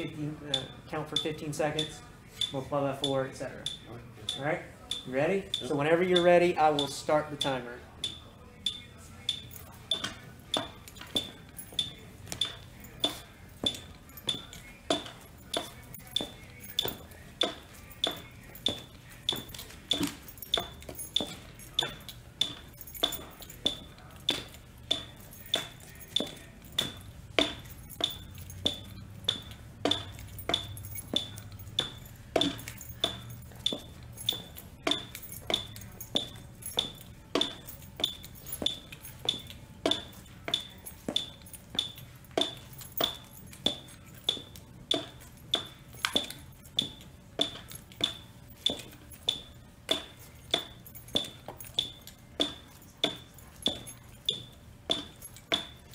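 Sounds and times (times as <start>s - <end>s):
short high metronome beeps: 0.0s - 55.9s
feet thudding on a step: 9.8s - 55.9s.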